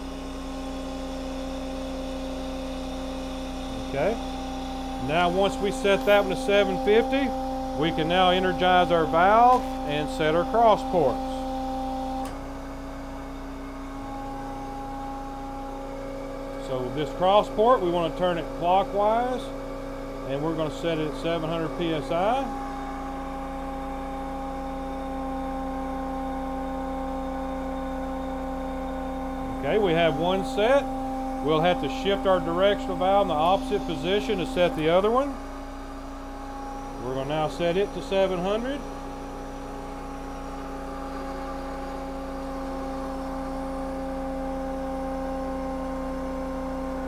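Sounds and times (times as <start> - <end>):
hydraulic pump and motor whining: 0.0 - 47.0.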